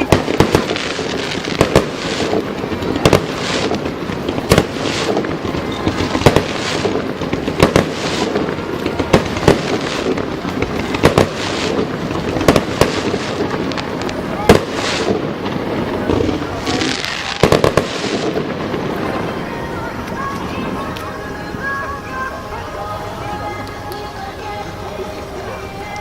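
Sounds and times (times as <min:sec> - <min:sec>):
fireworks bursting with bangs: 0:00.0 - 0:26.0
fireworks crackling hiss: 0:00.0 - 0:26.0.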